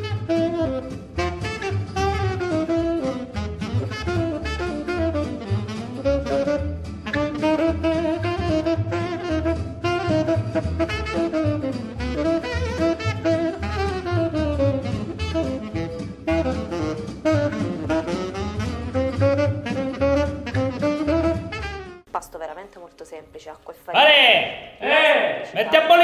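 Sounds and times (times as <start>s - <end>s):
instrumental background music: 0.0s - 23.6s.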